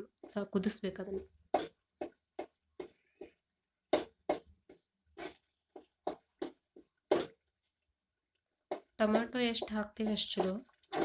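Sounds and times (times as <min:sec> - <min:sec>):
wet mashing strokes in a pan: 0:00.0 - 0:11.0.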